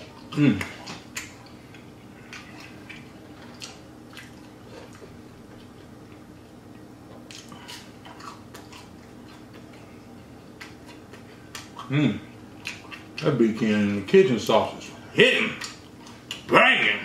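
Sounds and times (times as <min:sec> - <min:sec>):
person chewing with mouth clicks: 0:00.0 - 0:13.8, 0:14.8 - 0:16.5
faint steady hum: 0:00.0 - 0:17.0.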